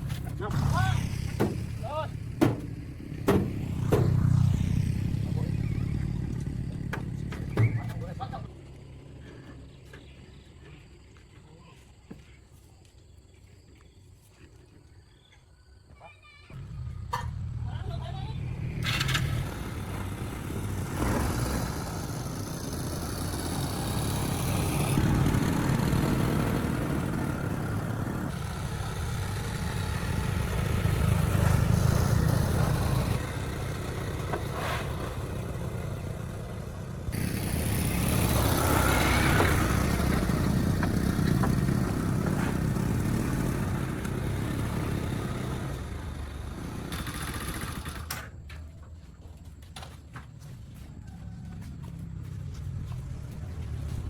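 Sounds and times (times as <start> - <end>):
vehicle engine running: 0.0 - 10.4, 16.5 - 48.3, 49.2 - 54.0.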